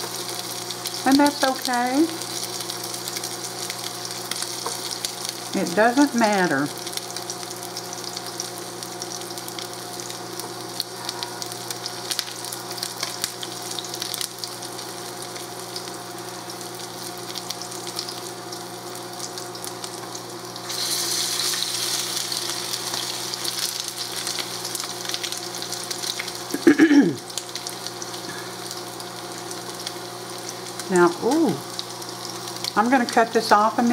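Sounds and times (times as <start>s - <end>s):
patties sizzling in oil: 0.0s - 33.9s.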